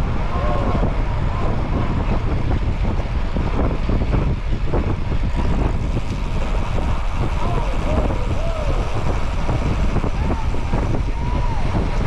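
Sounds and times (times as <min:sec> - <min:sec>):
road noise: 0:00.0 - 0:12.0
wind noise: 0:00.0 - 0:12.0.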